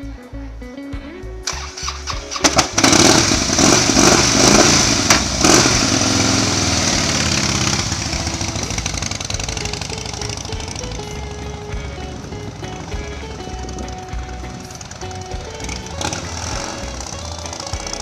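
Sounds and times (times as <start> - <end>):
motorcycle engine starting and revving: 1.4 - 18.0.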